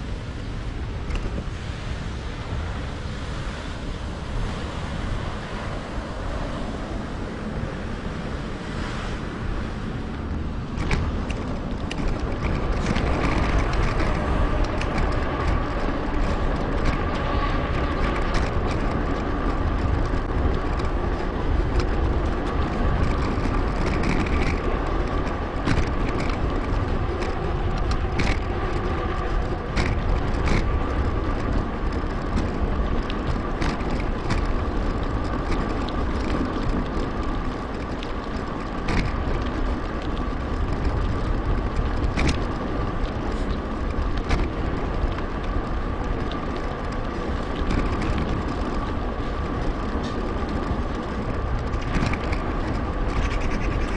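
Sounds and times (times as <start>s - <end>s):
bike clicks and rattles: 0.0s - 1.5s, 9.4s - 53.9s
tyres rumbling on pavement: 0.0s - 53.9s
wind on microphone: 0.0s - 53.9s.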